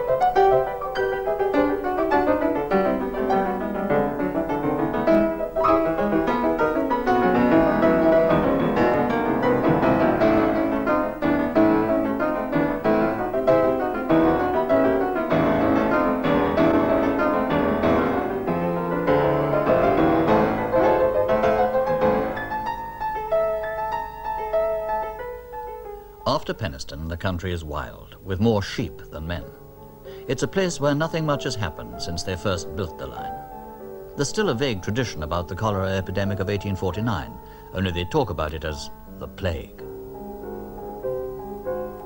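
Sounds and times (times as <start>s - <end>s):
piano music with quick notes: 0.0s - 42.0s.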